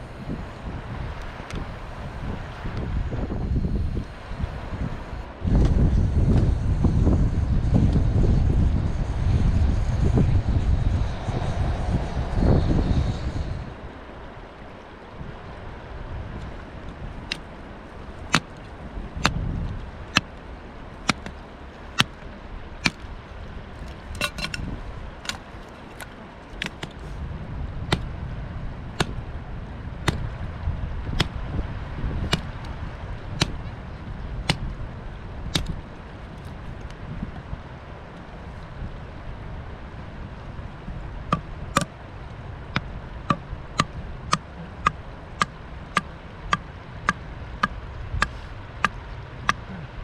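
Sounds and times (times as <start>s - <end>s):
wind rumble on microphone: 0.0s - 50.0s.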